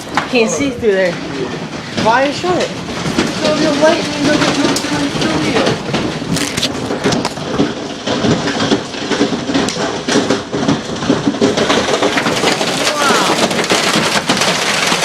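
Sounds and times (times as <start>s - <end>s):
hail and heavy rain pelting: 0.0s - 15.0s.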